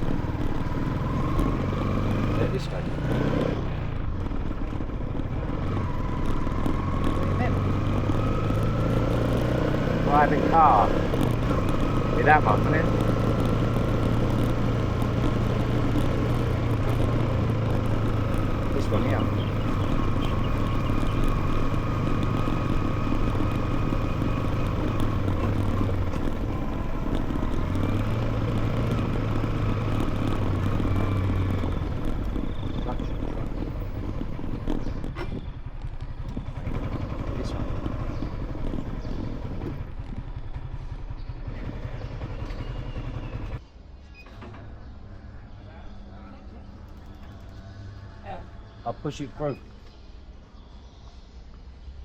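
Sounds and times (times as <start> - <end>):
motorcycle engine running: 0.0 - 43.7
road noise: 0.0 - 52.0.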